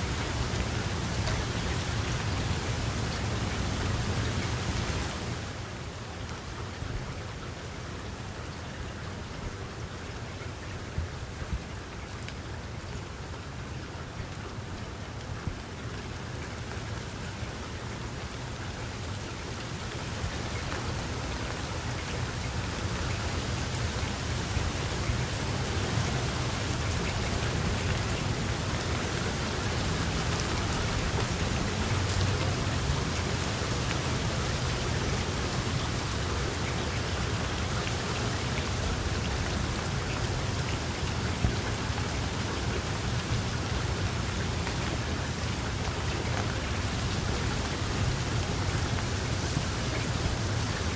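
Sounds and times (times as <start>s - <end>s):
rain pattering on surfaces: 0.0s - 50.9s.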